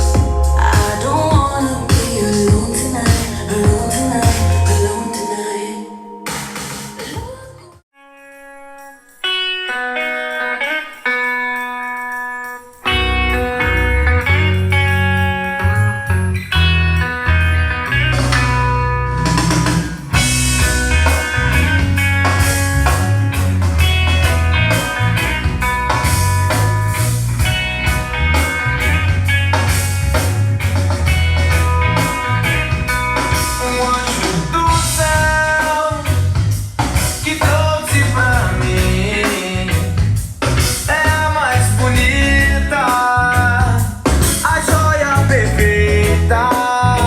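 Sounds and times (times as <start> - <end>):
instrumental pop-rock music: 0.0 - 7.4, 8.0 - 47.0.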